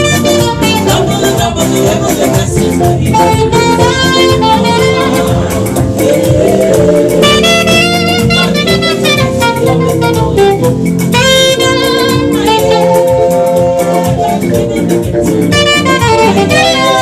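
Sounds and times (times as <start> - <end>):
band playing gospel jazz: 0.0 - 17.0
saxophone melody: 0.0 - 17.0.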